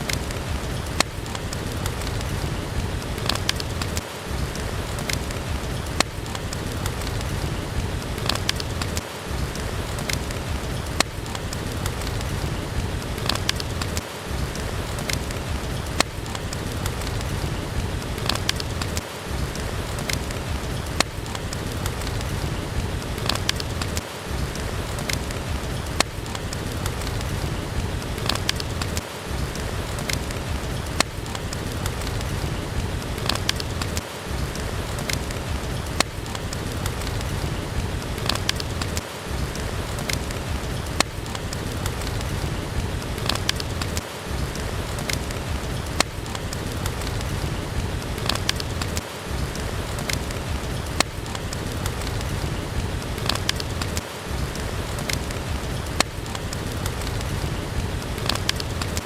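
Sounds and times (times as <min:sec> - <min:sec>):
steady rain: 0:00.0 - 0:59.0
wood fire popping and crackling: 0:00.0 - 0:59.0.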